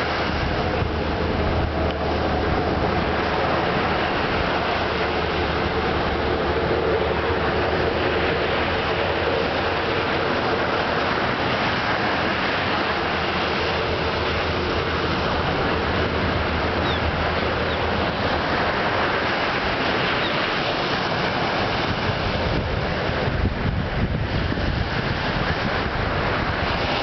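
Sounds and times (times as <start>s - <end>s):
waves breaking on beach: 0.0s - 27.0s
wind on microphone: 0.0s - 27.0s.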